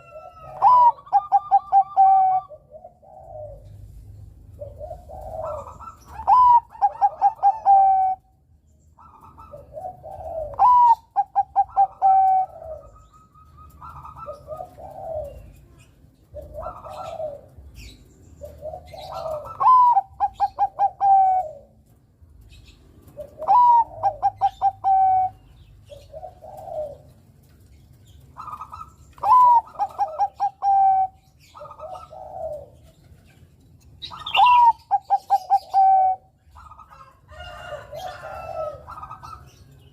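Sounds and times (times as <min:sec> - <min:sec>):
dove cooing: 0:00.0 - 0:08.4, 0:09.0 - 0:39.9.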